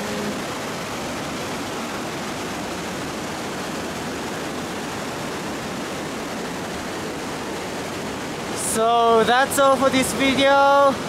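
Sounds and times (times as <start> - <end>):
stream rushing over boulders: 0.0 - 11.0.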